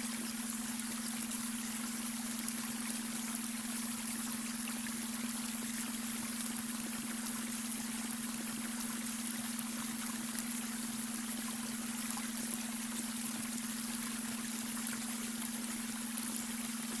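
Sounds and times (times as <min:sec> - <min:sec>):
flowing water: 0:00.0 - 0:17.0
steady low hum: 0:00.0 - 0:17.0.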